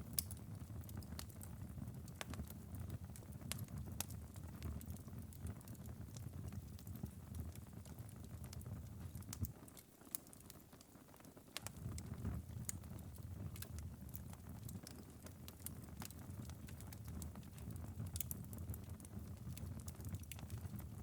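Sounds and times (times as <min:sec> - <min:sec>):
low fire rumble: 0:00.0 - 0:10.9, 0:11.6 - 0:21.0
embers popping and ticking: 0:00.0 - 0:21.0.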